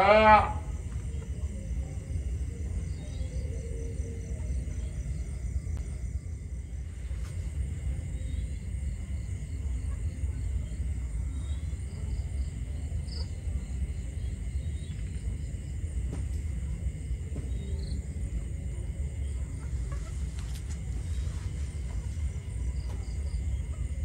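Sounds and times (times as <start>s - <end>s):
night insects trilling: 0.0s - 24.0s.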